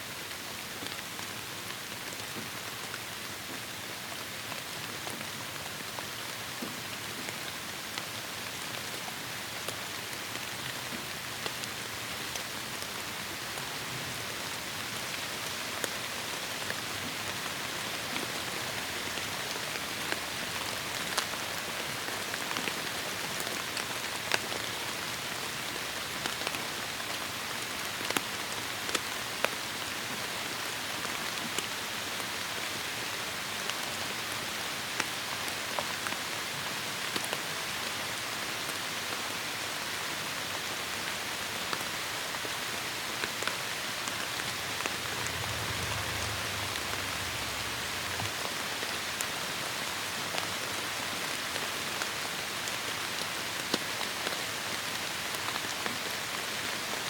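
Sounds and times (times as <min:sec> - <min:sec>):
heavy rain in a forest: 0:00.0 - 0:57.0.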